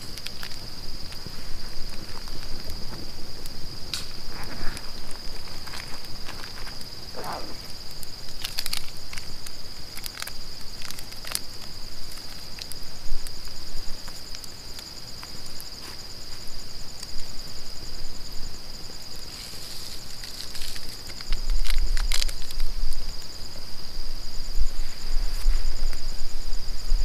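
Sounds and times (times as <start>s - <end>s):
night insects trilling: 0.0s - 27.0s.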